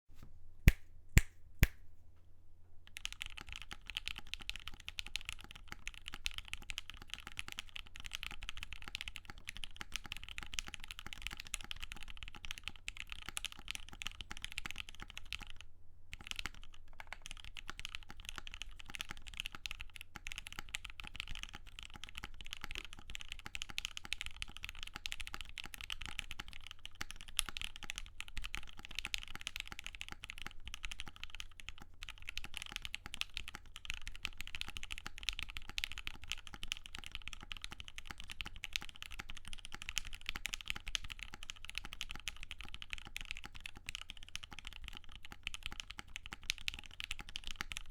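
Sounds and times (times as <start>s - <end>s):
typing on mechanical keyboard: 2.9s - 47.9s.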